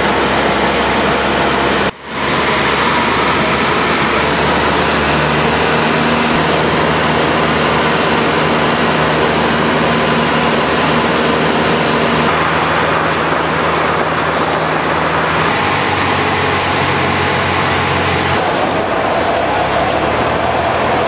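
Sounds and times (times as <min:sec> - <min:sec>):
propeller plane engine drone: 0:00.0 - 0:21.0
rushing airflow: 0:00.0 - 0:21.0.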